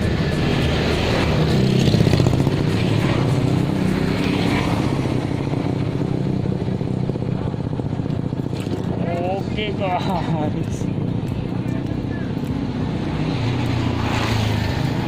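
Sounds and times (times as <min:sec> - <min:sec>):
vehicle engine passing by: 0:00.0 - 0:07.5, 0:10.3 - 0:15.0.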